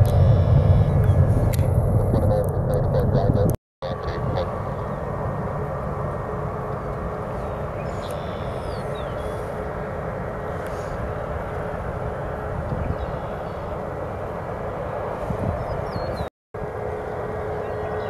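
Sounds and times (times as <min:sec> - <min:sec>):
constant hum: 0:00.0 - 0:18.0
jet engines droning: 0:00.0 - 0:18.0.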